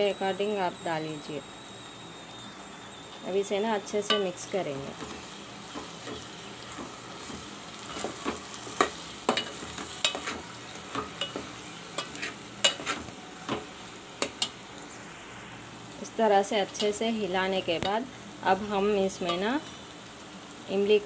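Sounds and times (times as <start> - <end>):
frying hiss: 0.0 - 21.0.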